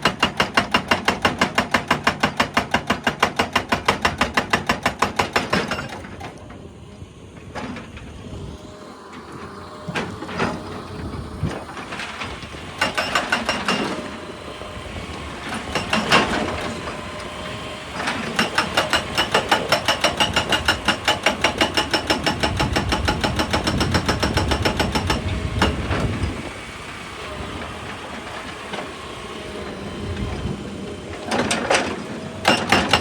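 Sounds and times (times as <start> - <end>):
hydraulic breaker hammering rock: 0.0 - 6.6, 9.3 - 33.0
excavator engine running: 5.2 - 33.0.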